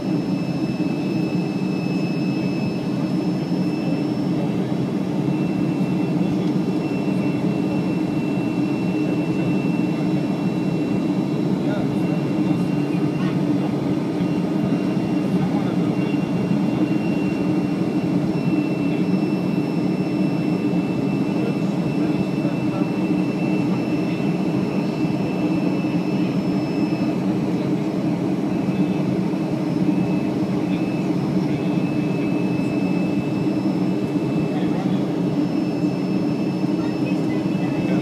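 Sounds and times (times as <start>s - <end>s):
jet engines rumbling in cabin: 0.0s - 38.0s.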